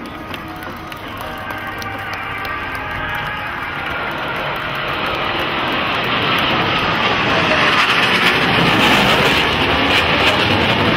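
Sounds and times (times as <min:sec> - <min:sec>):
jet engines rushing past: 0:00.0 - 0:10.9.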